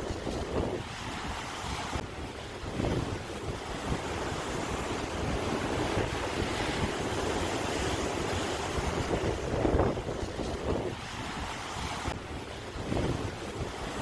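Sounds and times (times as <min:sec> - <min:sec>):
sea waves washing on shore: 0:00.0 - 0:14.0
wind buffeting microphone: 0:00.0 - 0:14.0.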